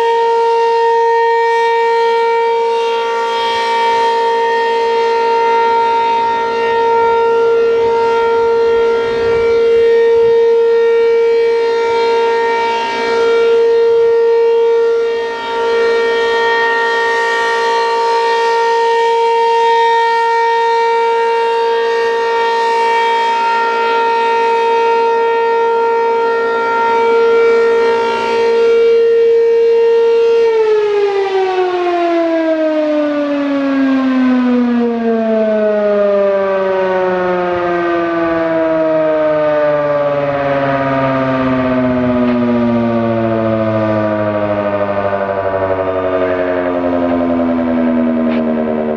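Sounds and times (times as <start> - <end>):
warning siren alert tone: 0.0 - 48.9.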